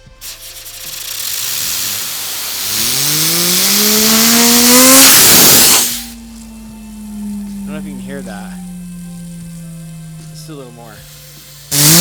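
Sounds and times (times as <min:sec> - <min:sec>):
compressed air hissing blast: 0:00.0 - 0:12.0
fidget spinner whine: 0:00.0 - 0:12.0.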